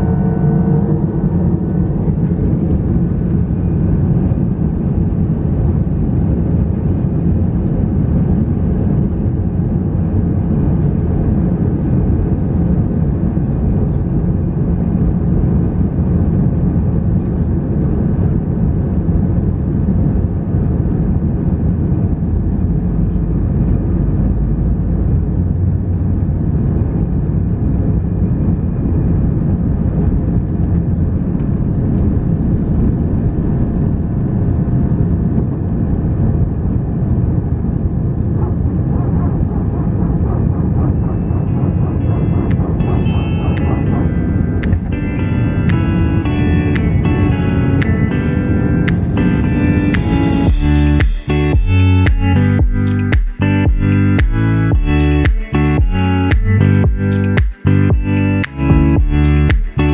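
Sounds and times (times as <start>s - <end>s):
airplane engine rumble in cabin: 0.0s - 51.8s.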